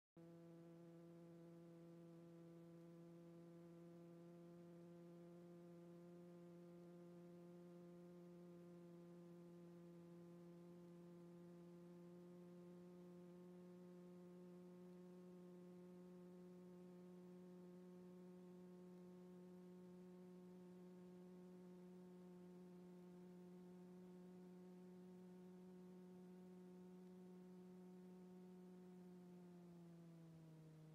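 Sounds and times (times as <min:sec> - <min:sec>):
faint low hum: 0:00.2 - 0:30.9.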